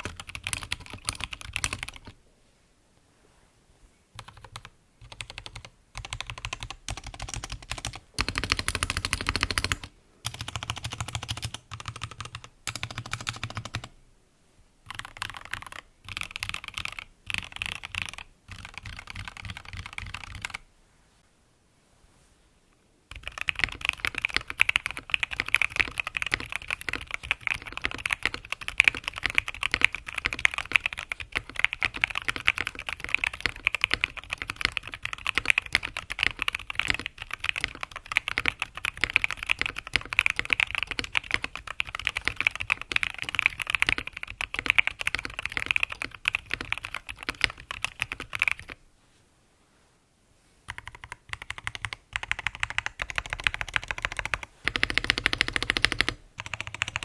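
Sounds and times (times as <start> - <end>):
fast mechanical keyboard typing: 0.0 - 2.1, 4.2 - 13.9, 14.9 - 20.6, 23.1 - 48.8, 50.7 - 57.0.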